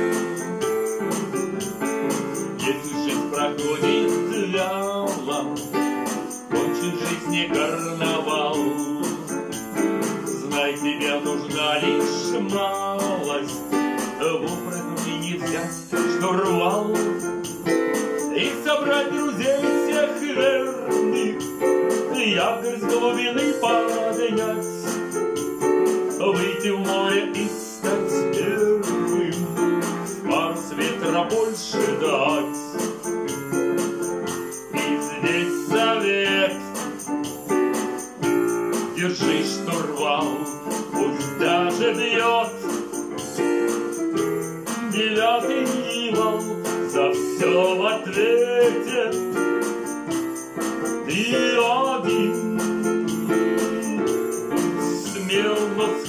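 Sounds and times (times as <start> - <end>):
digital piano with accompaniment: 0.0 - 56.0.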